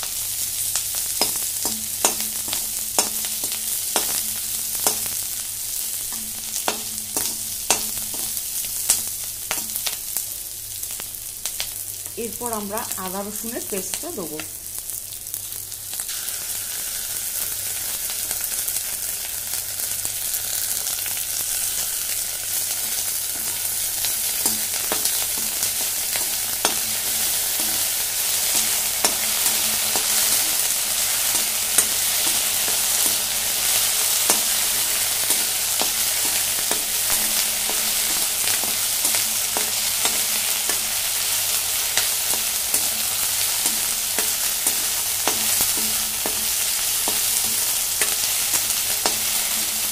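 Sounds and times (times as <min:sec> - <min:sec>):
onions sizzling in oil: 0:00.0 - 0:49.9.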